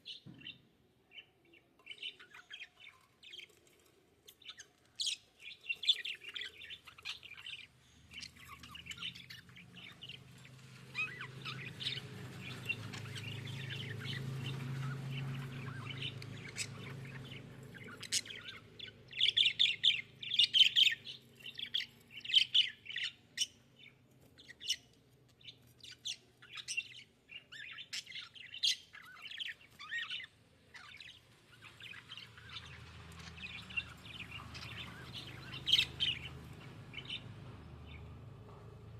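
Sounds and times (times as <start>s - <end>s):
budgerigars chirping and chattering: 0.0s - 38.1s.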